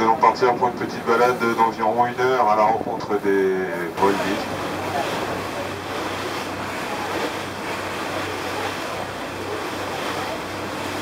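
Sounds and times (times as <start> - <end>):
choppy sea water rushing: 0.0 - 11.0.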